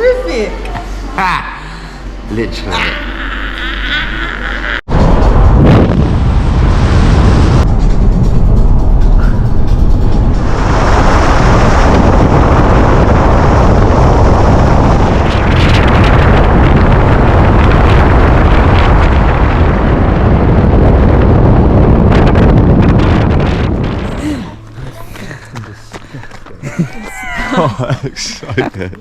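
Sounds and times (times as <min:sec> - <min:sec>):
wind buffeting microphone: 0:04.9 - 0:28.6.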